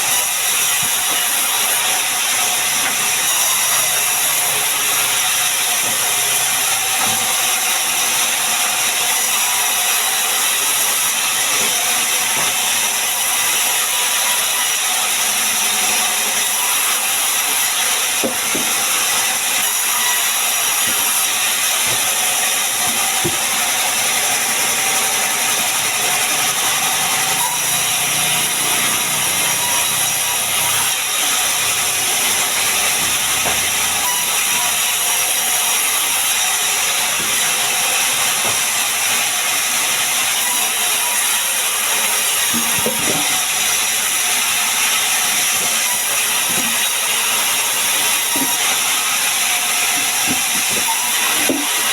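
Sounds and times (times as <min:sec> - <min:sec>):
sawmill saw cutting wood: 0:00.0 - 0:51.9.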